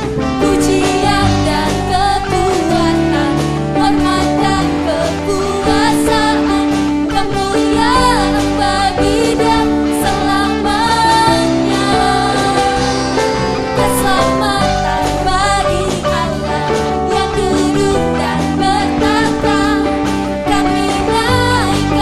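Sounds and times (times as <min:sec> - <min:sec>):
worship singing over a band: 0:00.0 - 0:22.0.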